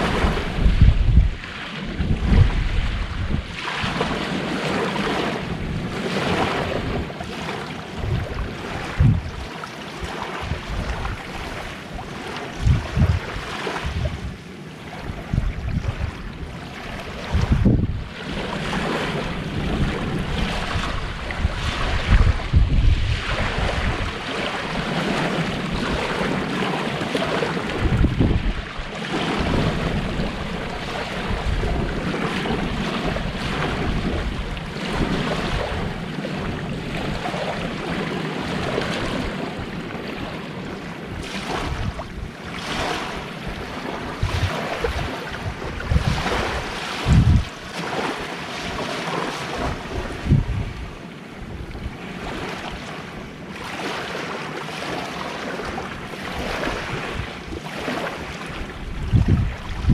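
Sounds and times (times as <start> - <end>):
wind buffeting microphone: 0.0 - 54.1, 55.6 - 59.9
sea waves washing on beach: 0.0 - 59.9.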